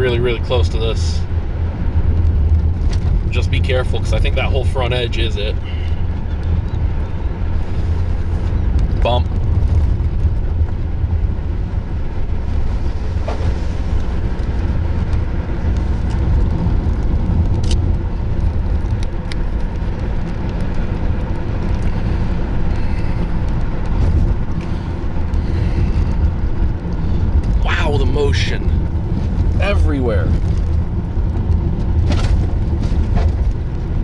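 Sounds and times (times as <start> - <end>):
car cabin road rumble: 0.0 - 34.0.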